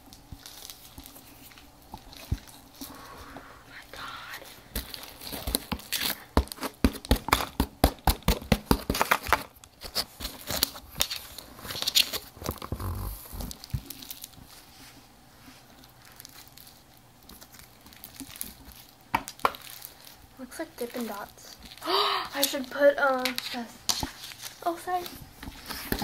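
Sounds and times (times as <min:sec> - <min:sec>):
slime crackling and popping: 0:00.0 - 0:02.9, 0:04.1 - 0:14.5, 0:15.7 - 0:26.0.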